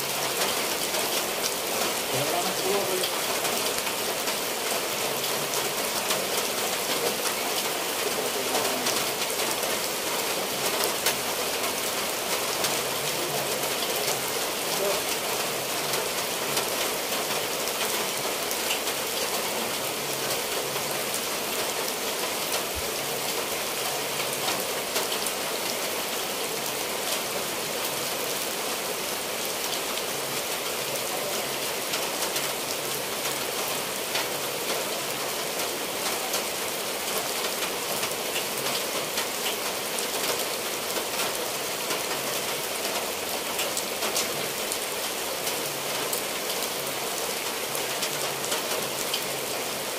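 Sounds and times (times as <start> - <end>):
heavy rain on roofs and trees: 0.0 - 49.9
water running off eaves: 0.0 - 49.9.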